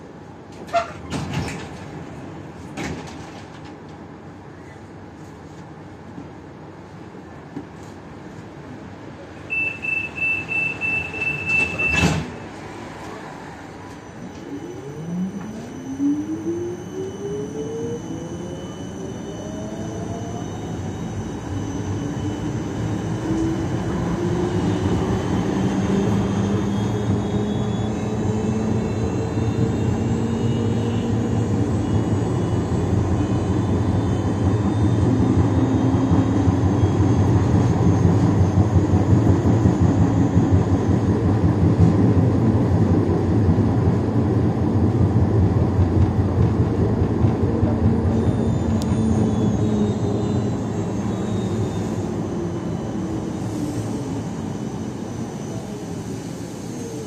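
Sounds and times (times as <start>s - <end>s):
wheels rumbling on rail: 0.0s - 57.0s
tram motors whining: 9.4s - 57.0s.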